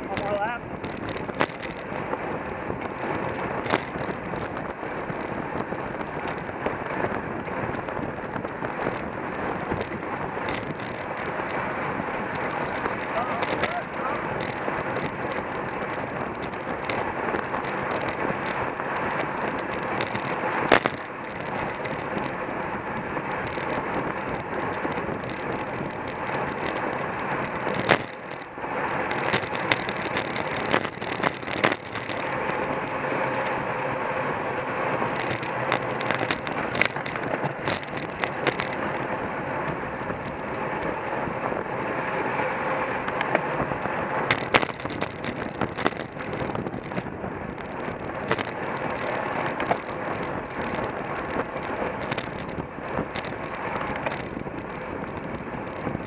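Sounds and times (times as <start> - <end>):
bicycle knocks and rattles: 0.0 - 56.0
bicycle tyre noise: 0.0 - 56.0
wind rush: 0.0 - 56.0.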